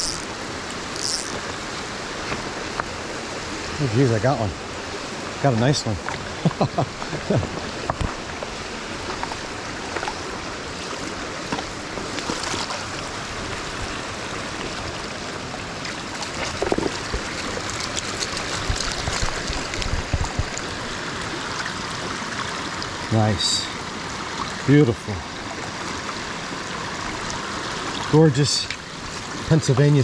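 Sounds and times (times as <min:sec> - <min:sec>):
stream water rushing over rocks: 0:00.0 - 0:30.0.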